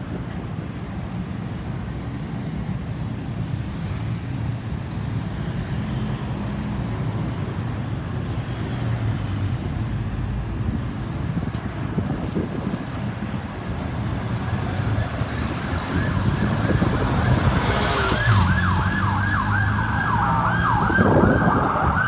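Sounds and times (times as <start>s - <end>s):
tyres on the road: 0.0s - 22.0s.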